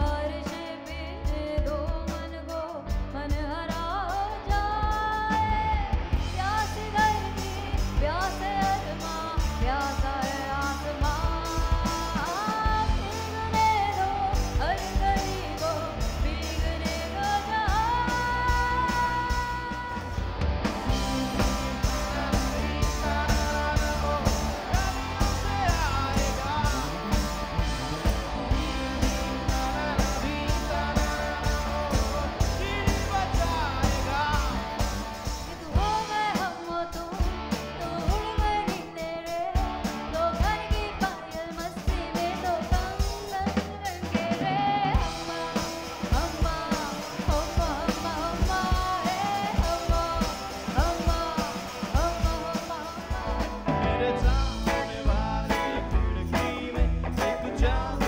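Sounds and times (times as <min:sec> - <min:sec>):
person singing: 0:00.0 - 0:20.3, 0:20.9 - 0:58.0
bass: 0:00.0 - 0:58.0
drum kit beat: 0:00.0 - 0:58.0
electric guitar: 0:00.0 - 0:58.0.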